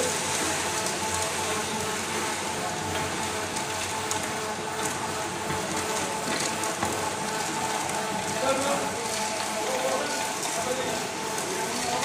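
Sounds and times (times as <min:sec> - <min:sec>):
dry mix tumbling in drum: 0:00.0 - 0:12.0.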